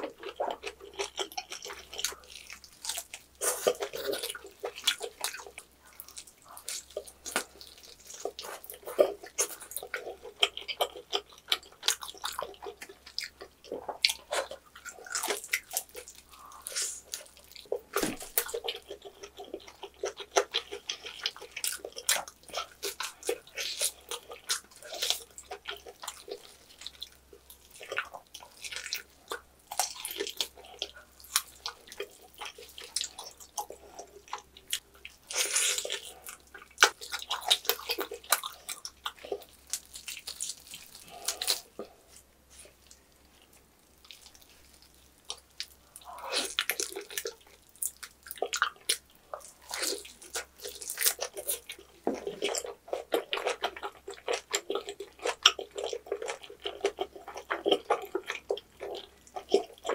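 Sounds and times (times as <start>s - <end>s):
wet chewing and mouth clicks: 0.0s - 59.9s.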